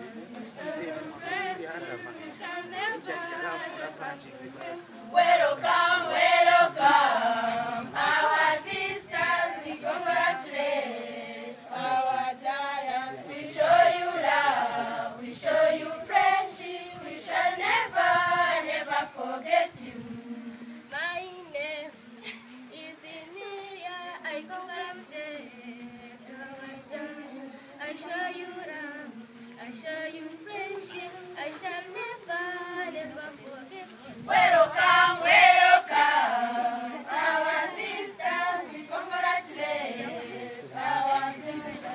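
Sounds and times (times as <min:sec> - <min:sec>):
girls choir singing: 0:00.0 - 0:41.9.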